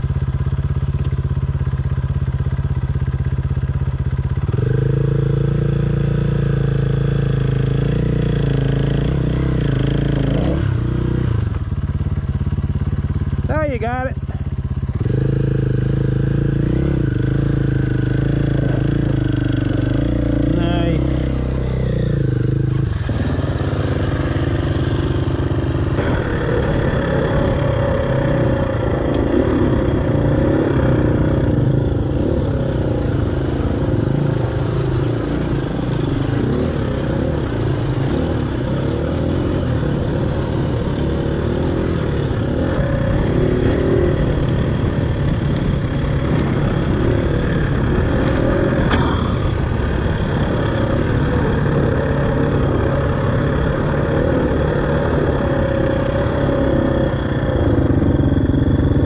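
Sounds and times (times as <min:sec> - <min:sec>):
dirt bike engine revving: 0:03.2 - 0:45.0, 0:46.0 - 0:59.0.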